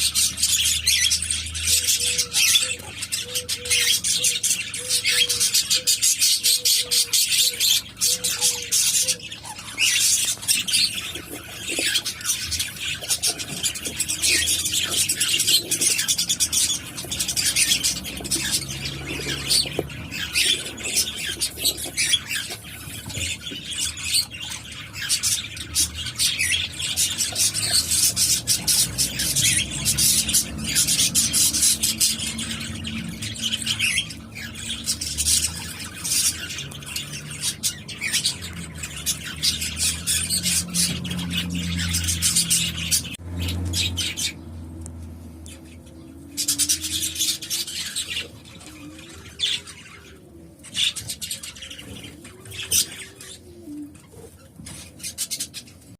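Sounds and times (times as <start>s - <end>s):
cockatiels squawking: 0.0s - 44.4s, 45.4s - 55.9s.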